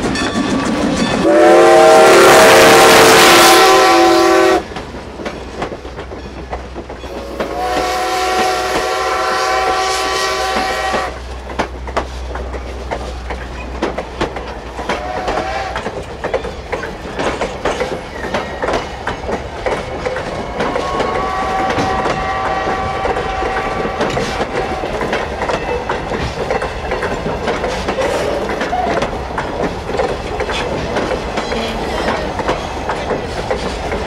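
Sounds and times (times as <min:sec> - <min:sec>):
wheels clicking over rail joints: 0:00.0 - 0:01.3, 0:04.6 - 0:09.8, 0:10.4 - 0:34.0
train coaches rumbling past: 0:00.0 - 0:34.0.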